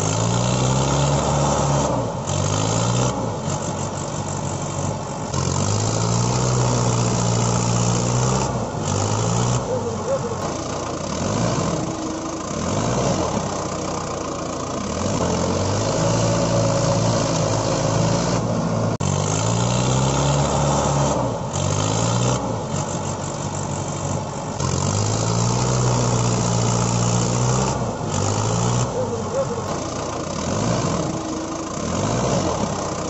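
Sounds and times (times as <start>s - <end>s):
tractor engine idling and revving: 0.0s - 33.0s.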